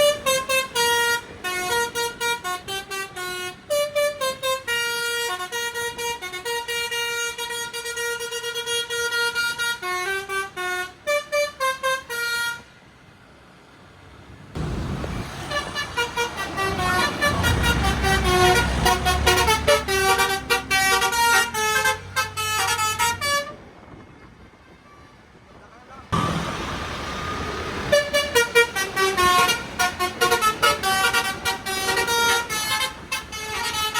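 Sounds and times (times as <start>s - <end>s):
musical bus horn tune: 0.0s - 12.8s, 15.3s - 23.7s, 27.7s - 33.9s
bus engine rumble: 0.0s - 33.9s.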